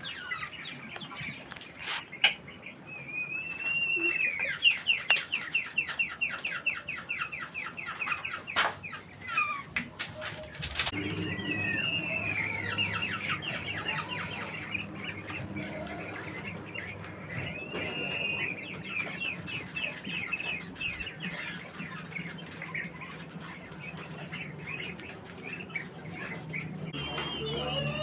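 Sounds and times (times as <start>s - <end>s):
quail high chirps: 0.0s - 28.0s.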